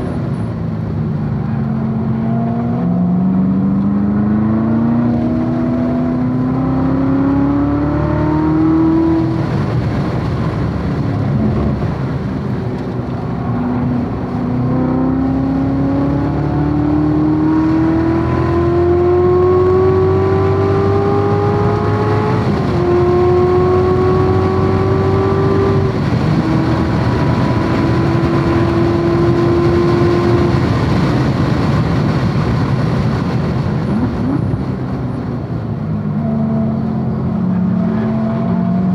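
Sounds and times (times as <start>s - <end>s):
car engine at full throttle: 0.0s - 38.9s
wind and tyre noise: 0.0s - 38.9s.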